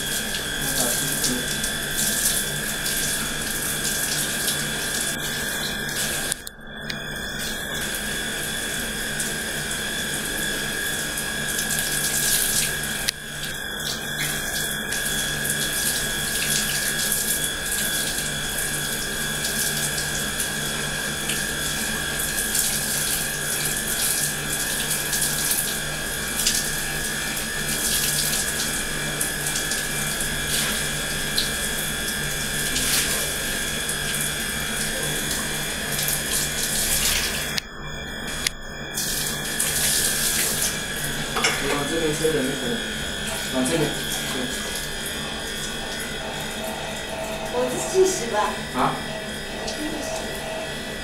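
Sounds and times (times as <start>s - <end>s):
shower water spraying: 0.0s - 6.4s, 7.3s - 37.6s, 38.3s - 46.5s.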